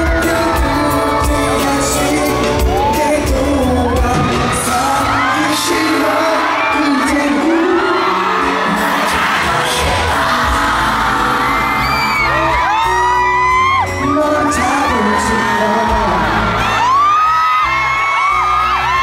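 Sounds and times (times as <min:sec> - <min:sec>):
man singing: 0:00.0 - 0:17.4
fans screaming: 0:00.0 - 0:19.0
live pop music: 0:00.0 - 0:19.0.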